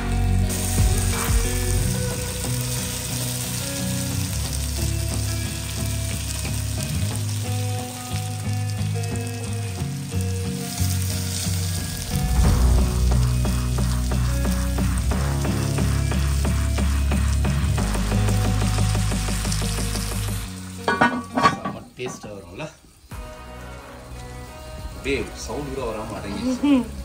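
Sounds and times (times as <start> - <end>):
background music with held notes: 0.0 - 21.8, 23.1 - 27.0
food sizzling in a pan: 0.0 - 27.0.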